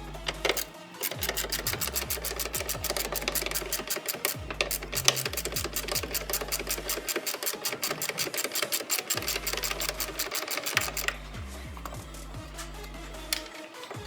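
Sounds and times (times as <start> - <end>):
ratchet wrench clicking: 0.2 - 12.4.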